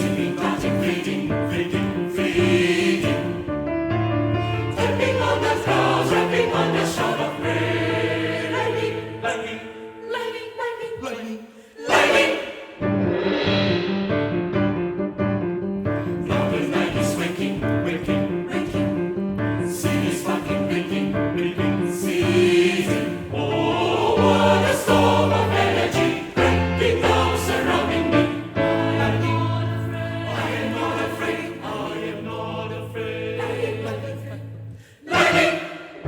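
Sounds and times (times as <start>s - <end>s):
mixed choir singing: 0.0s - 3.5s, 4.7s - 13.3s, 16.2s - 36.0s
piano accompaniment: 0.0s - 10.1s, 12.8s - 36.0s.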